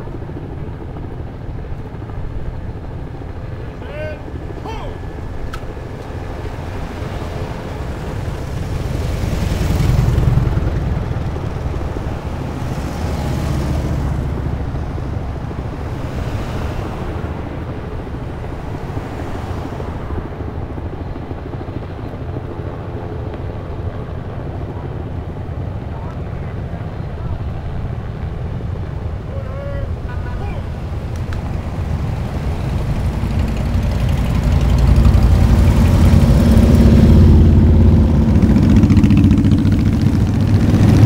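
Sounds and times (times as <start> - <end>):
low steady traffic rumble: 0.0 - 41.0
motorcycles passing: 0.6 - 21.5, 23.6 - 41.0
cars passing: 3.6 - 20.9, 25.2 - 41.0.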